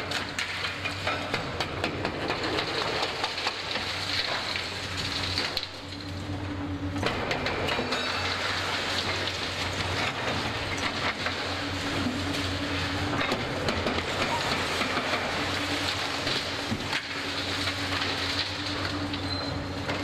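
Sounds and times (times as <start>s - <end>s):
debris cracking and clattering: 0.0s - 6.3s, 7.0s - 20.0s
excavator diesel engine hum: 2.2s - 20.0s.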